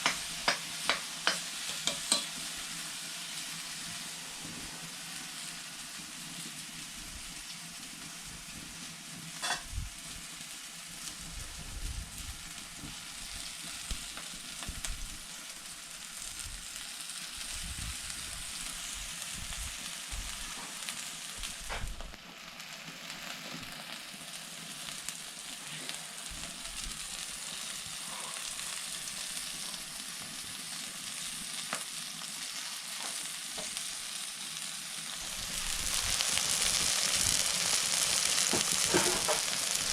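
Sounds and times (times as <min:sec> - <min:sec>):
food sizzling in a pot: 0:00.0 - 0:39.9.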